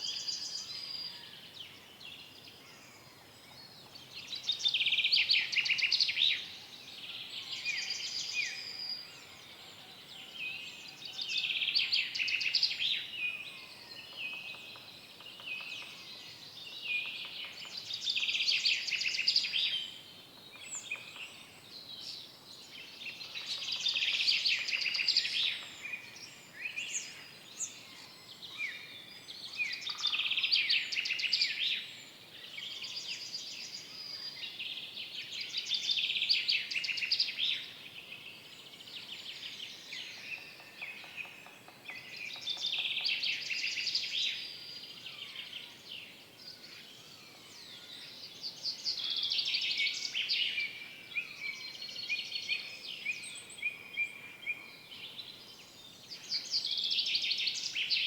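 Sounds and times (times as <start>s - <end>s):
songbird trilled song: 10.3s - 58.0s.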